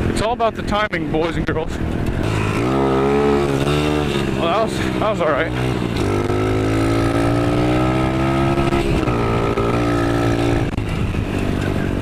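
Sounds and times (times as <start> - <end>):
dirt bike engine revving: 1.8 - 12.0.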